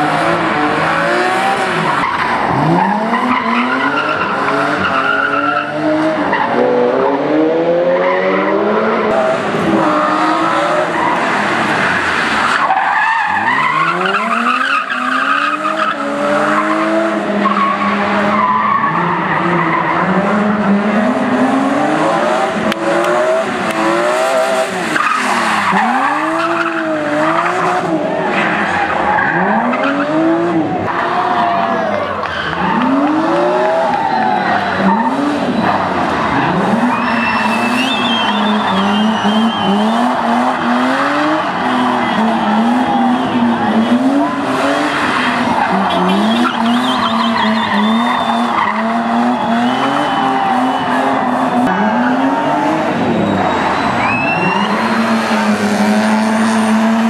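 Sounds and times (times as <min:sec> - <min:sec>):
car engine revving hard: 0:00.0 - 0:57.0
tyres squealing and skidding: 0:00.0 - 0:57.0.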